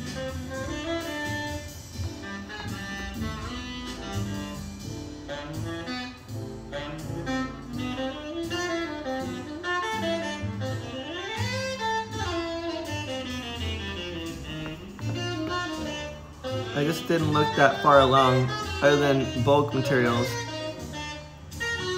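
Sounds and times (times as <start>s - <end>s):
instrumental background music: 0.0s - 21.9s.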